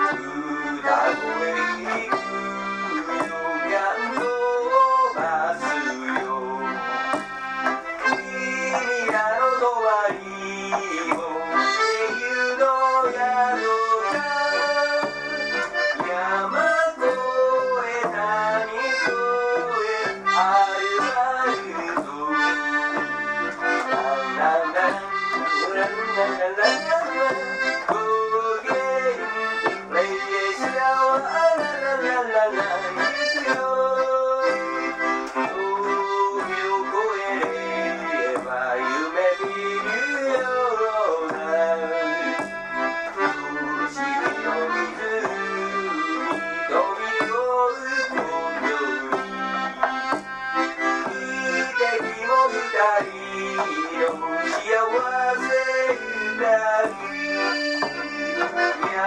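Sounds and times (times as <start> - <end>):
accordion melody: 0.0 - 59.0
acoustic guitar: 0.0 - 59.0.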